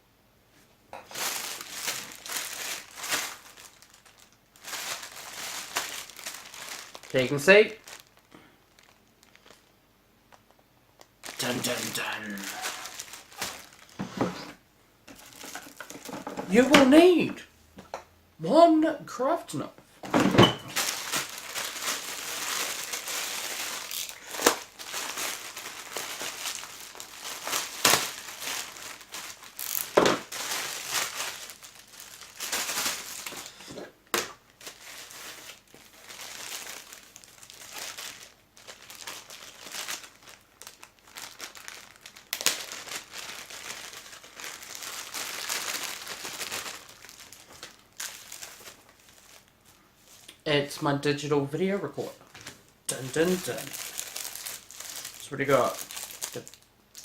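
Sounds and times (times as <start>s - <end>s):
sharp packaging crackles: 1.1s - 14.0s, 15.1s - 17.1s, 20.7s - 50.3s, 52.3s - 57.0s
packaging crinkling and tearing: 1.1s - 14.4s, 15.1s - 17.0s, 20.7s - 50.3s, 52.3s - 57.0s.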